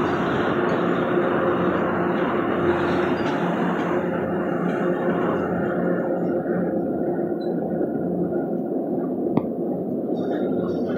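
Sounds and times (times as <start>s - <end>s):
rail noise: 0.0s - 10.9s
train coaches rumbling past: 0.0s - 10.9s.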